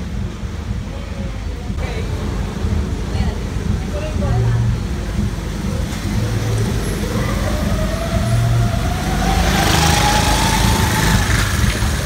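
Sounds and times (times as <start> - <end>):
vehicle engine accelerating: 2.0 - 12.0.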